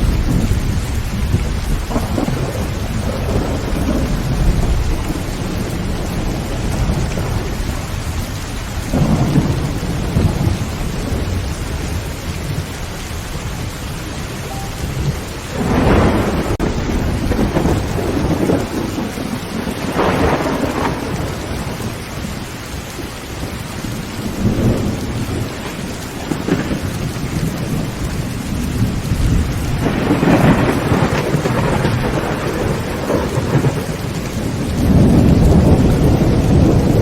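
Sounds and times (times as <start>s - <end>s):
heavy rain on a tin roof: 0.0s - 37.0s
thunder rumbling: 0.0s - 37.0s.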